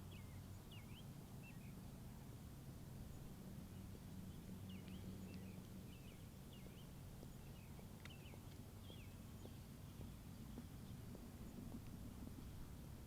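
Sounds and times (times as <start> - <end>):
faint bird chirping: 0.0 - 2.4, 3.0 - 13.0
low steady hum: 0.0 - 13.0.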